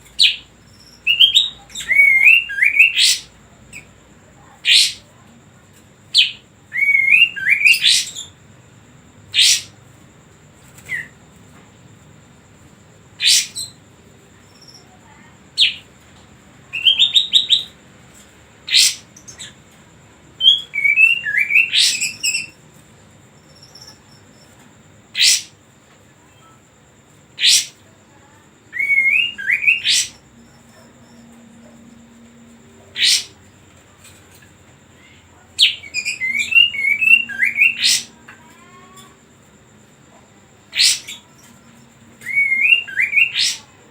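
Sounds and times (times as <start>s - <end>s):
songbird singing: 0.0s - 17.8s, 18.6s - 43.9s.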